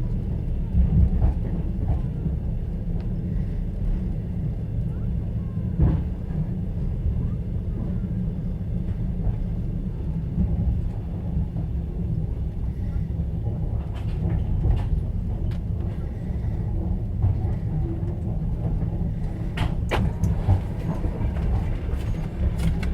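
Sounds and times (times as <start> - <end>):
train carriage rumble on rails: 0.0 - 22.9.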